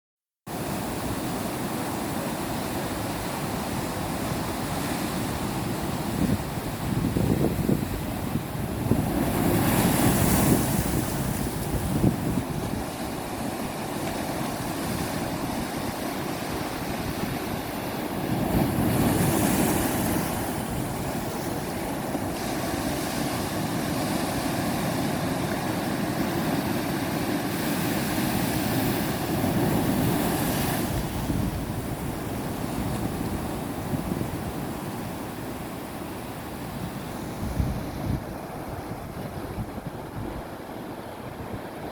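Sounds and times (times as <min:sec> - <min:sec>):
sea waves washing over rocks: 0:00.6 - 0:41.9.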